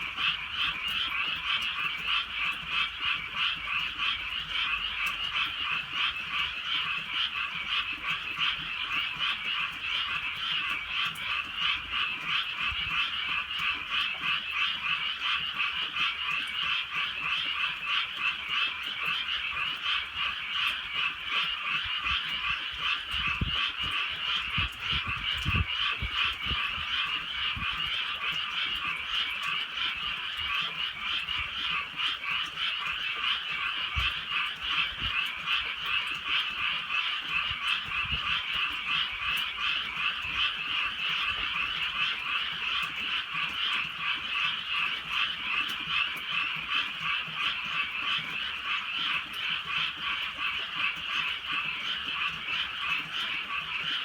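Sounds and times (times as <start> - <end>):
frogs croaking: 0.0 - 54.0
light drizzle ticks: 0.0 - 54.0.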